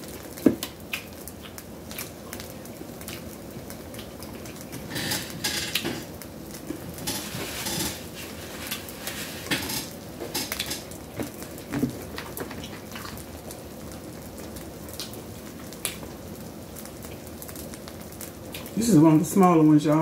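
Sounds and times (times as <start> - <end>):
crab shell crackling: 0.2 - 18.8.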